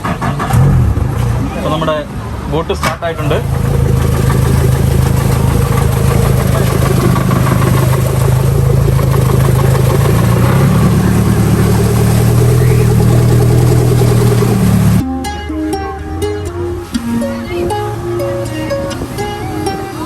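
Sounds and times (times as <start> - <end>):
speedboat engine running: 0.0 - 20.0
plucked-string music: 3.7 - 20.0.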